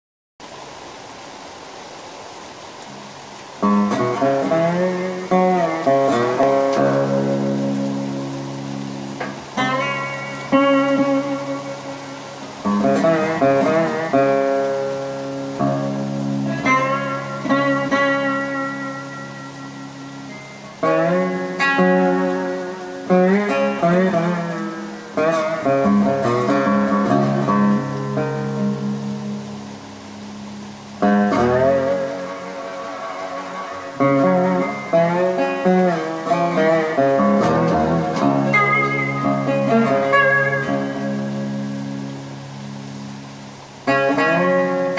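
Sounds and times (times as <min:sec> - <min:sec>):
resonator guitar playing: 0:02.9 - 0:44.9.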